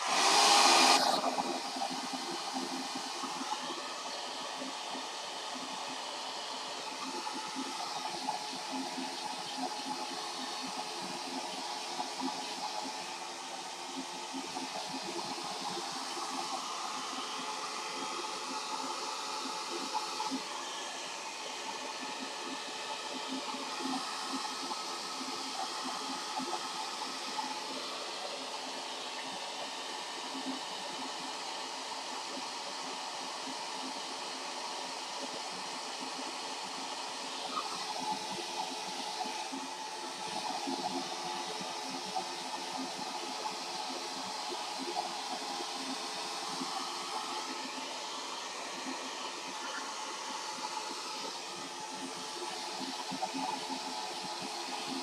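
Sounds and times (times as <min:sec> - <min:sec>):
hair dryer running: 0:00.0 - 0:31.9, 0:33.8 - 0:55.0.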